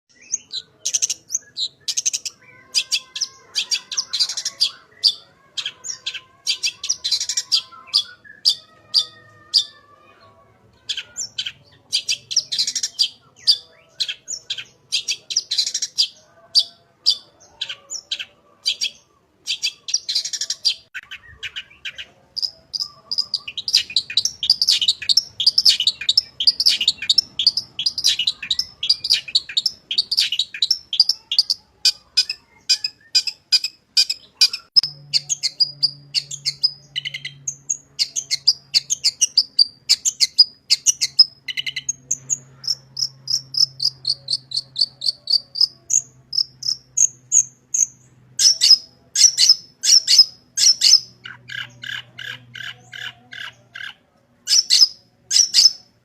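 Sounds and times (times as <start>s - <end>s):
bird chattering song: 0.1s - 10.1s, 10.8s - 55.9s.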